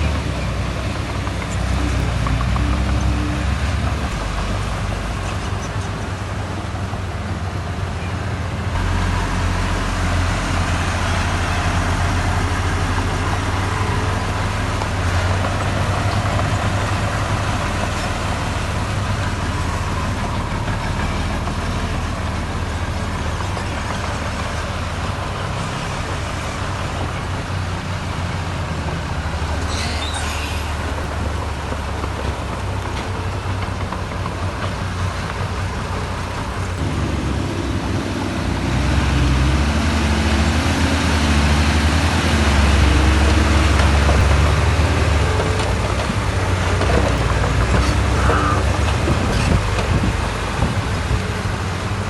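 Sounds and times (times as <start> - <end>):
diesel construction machinery running: 0.0 - 52.0.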